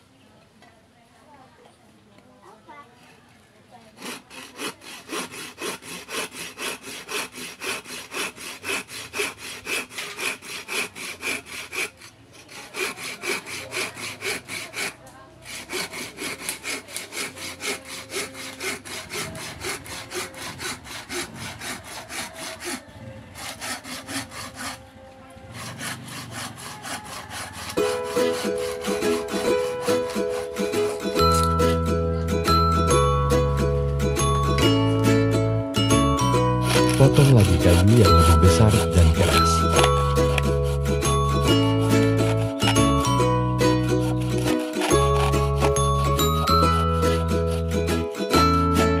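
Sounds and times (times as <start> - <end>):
hand saw cutting wood: 3.8 - 33.0, 35.8 - 49.0.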